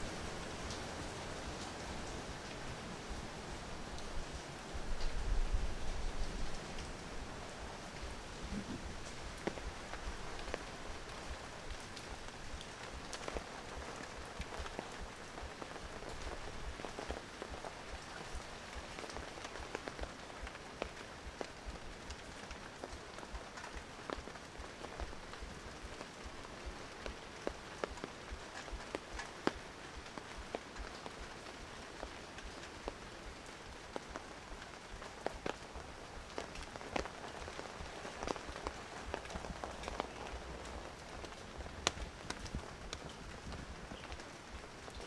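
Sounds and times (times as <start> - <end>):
rain falling on foliage: 0.0 - 45.0
sharp taps of raindrops: 0.0 - 45.0.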